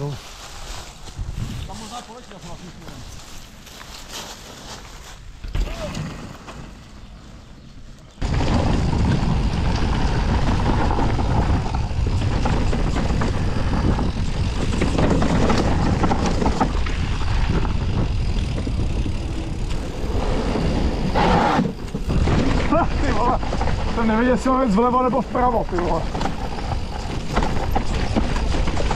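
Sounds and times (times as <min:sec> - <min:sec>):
wind rumble on microphone: 0:00.0 - 0:03.4, 0:08.2 - 0:28.9
bike rattling over rough ground: 0:00.0 - 0:28.9.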